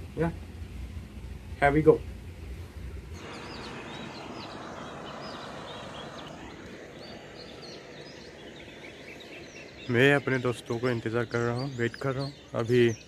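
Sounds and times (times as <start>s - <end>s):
low room hum: 0.0s - 12.2s
steady rush of background noise: 0.0s - 13.0s
small birds chirping: 1.6s - 13.0s.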